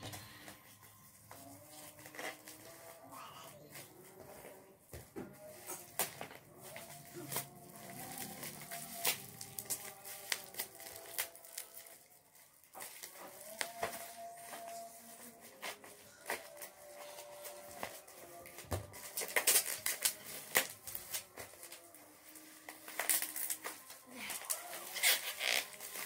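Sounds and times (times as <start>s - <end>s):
plastic wrapping crinkling and tearing: 0.7s - 4.7s, 5.4s - 26.0s.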